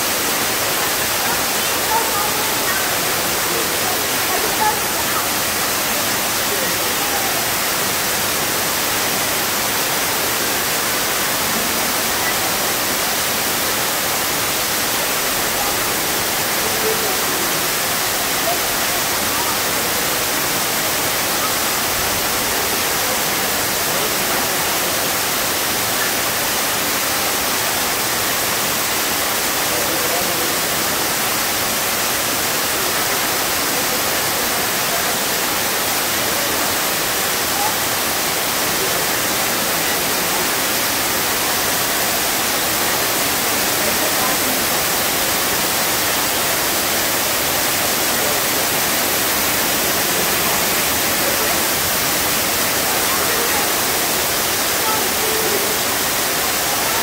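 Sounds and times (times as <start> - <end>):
waterfall splashing: 0.0 - 57.0.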